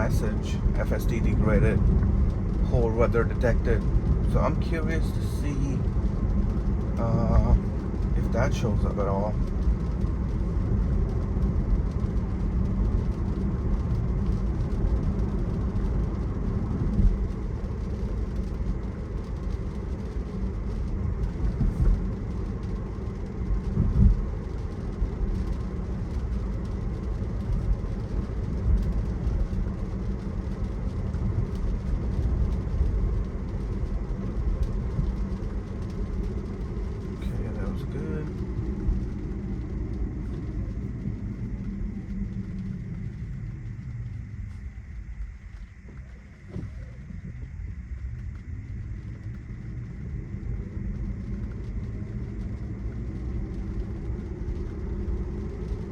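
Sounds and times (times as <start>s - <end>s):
road and tyre rumble: 0.0s - 55.9s.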